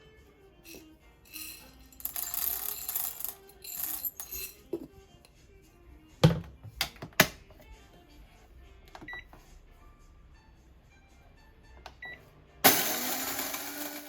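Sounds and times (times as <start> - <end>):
quiet background music: 0.0 - 14.0.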